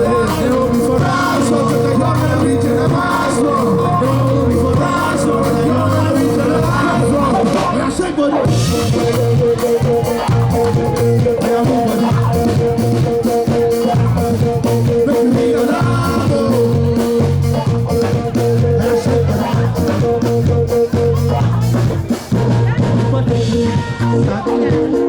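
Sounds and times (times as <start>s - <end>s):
pulsing bass line: 0.0s - 24.8s
live band groove: 0.0s - 25.0s
steady drum beat: 0.0s - 25.0s.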